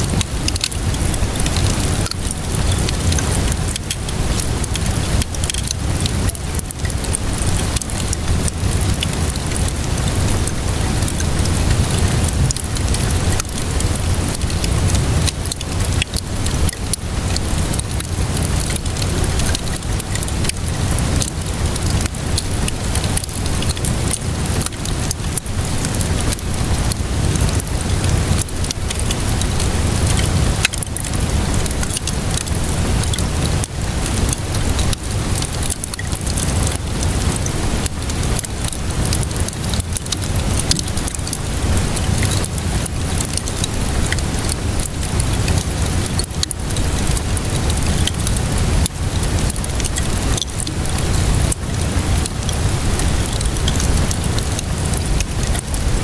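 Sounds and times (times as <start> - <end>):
steady rainfall: 0.0 - 56.0
wood fire crackling: 0.0 - 56.0.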